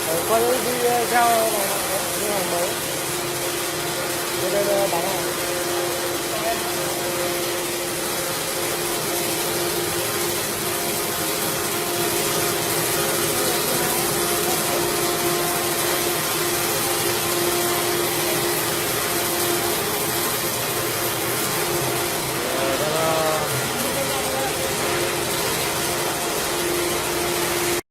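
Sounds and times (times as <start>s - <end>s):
machine whine with hiss: 0.0s - 27.8s.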